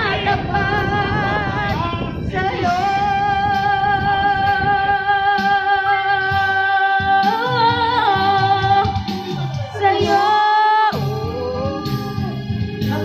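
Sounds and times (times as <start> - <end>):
backing music: 0.0 - 13.0
person singing into a microphone: 0.0 - 13.0.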